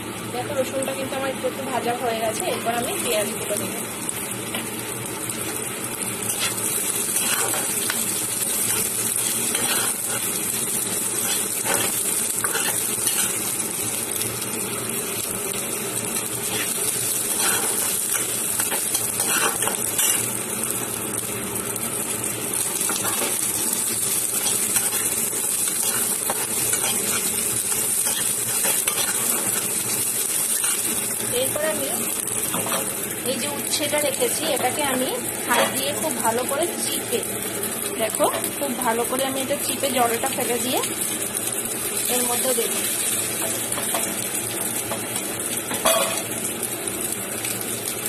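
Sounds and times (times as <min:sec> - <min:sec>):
vegetables sizzling in hot oil: 0:00.0 - 0:48.0.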